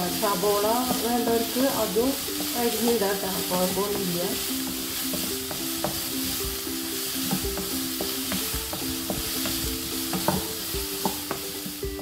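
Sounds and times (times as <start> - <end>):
low background tune: 0.0 - 12.0
vegetables sizzling in oil: 0.0 - 12.0
wooden spatula scraping pan: 0.0 - 12.0.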